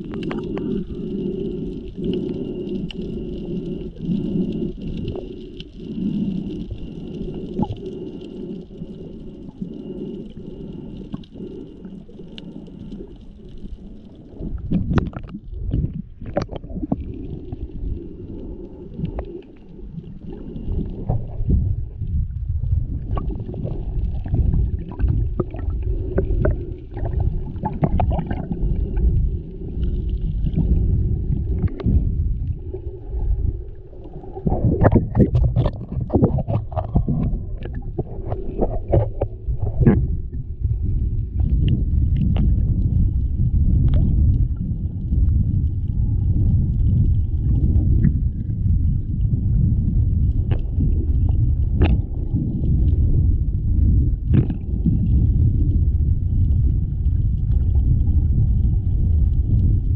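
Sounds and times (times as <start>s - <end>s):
water clicks and splashing: 0.0s - 22.0s, 22.7s - 59.9s
muffled underwater rumble: 0.0s - 59.9s.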